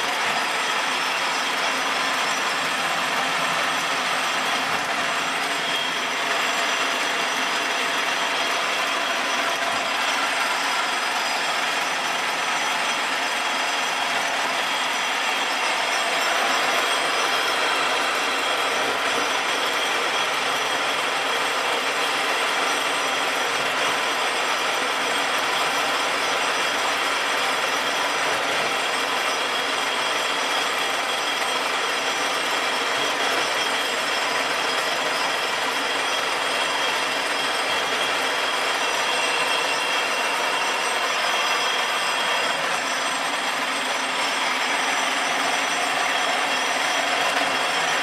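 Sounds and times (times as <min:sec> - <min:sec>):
screw machine running: 0:00.0 - 0:48.0.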